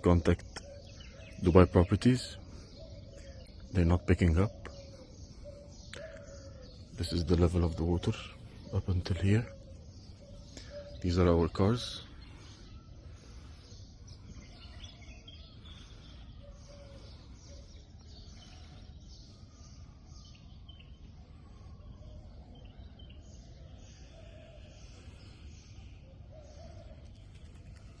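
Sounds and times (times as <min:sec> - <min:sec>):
faint bird chirps: 0:00.0 - 0:28.0.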